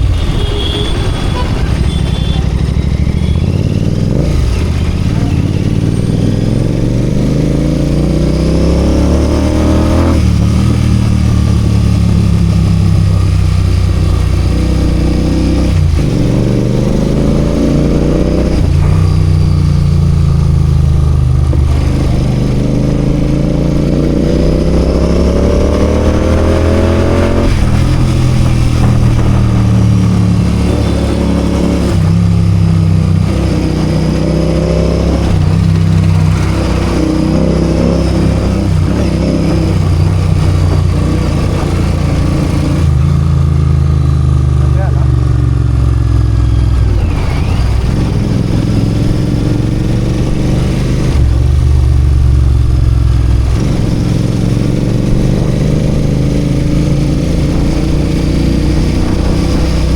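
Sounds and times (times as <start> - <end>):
motorcycle engine revving through gears: 2.4 - 59.9.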